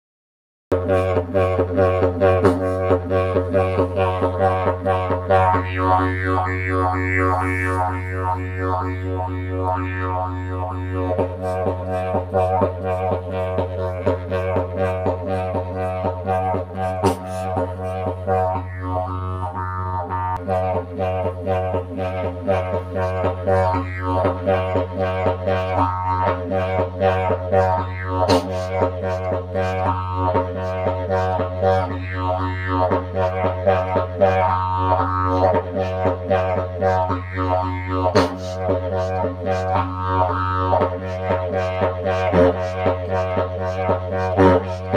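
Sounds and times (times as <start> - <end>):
didgeridoo drone: 0.7 - 44.9.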